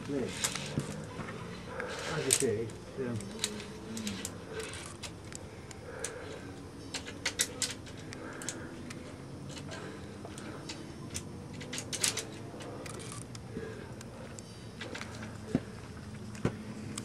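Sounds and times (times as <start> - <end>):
carabiners clicking on steel cable: 0.0 - 15.4.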